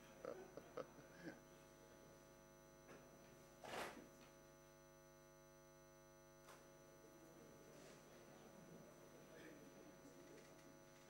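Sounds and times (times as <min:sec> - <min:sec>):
faint electrical mains hum: 0:00.0 - 0:11.0.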